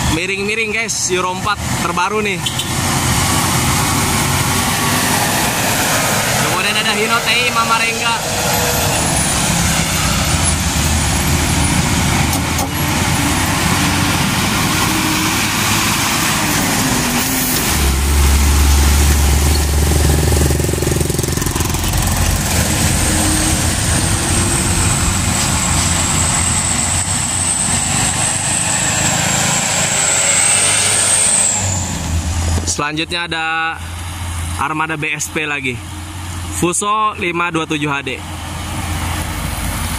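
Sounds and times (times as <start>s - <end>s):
diesel truck engine rumble: 0.0s - 39.9s.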